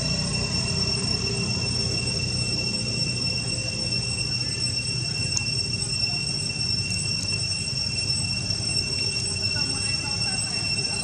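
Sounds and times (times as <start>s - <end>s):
high-pitched drone: 0.0s - 11.0s.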